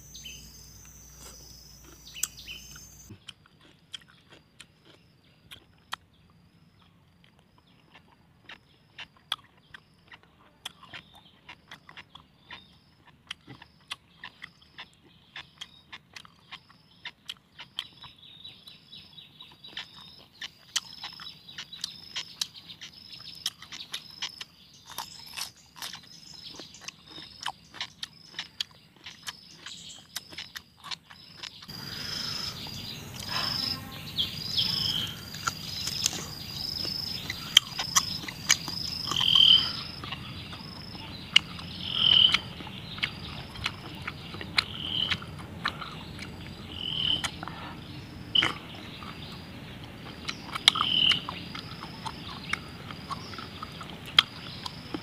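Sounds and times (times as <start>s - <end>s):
background noise: 0.0s - 55.0s
crisp chewing of cucumber: 0.1s - 55.0s.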